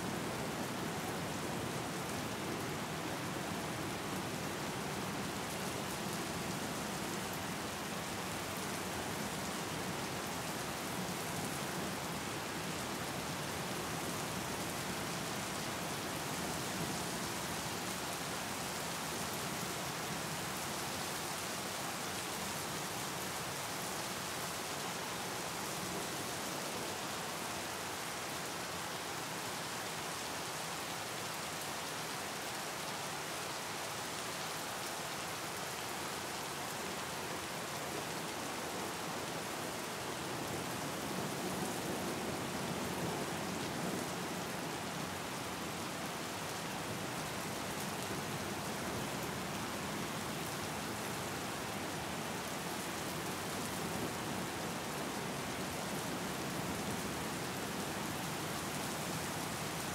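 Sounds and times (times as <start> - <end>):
rain falling on water: 0.0 - 59.9.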